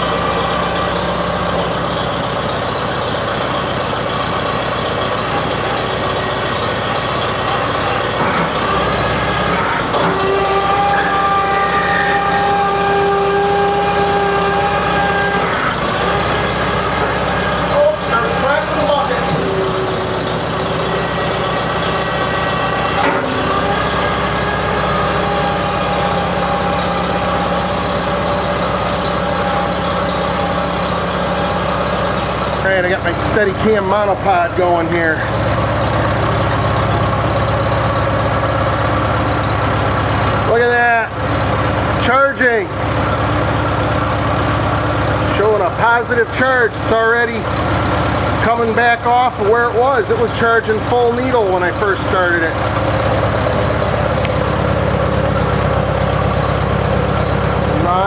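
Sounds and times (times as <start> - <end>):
engine knock: 0.0 - 10.5, 14.4 - 58.0
tractor engine idling: 0.0 - 58.0.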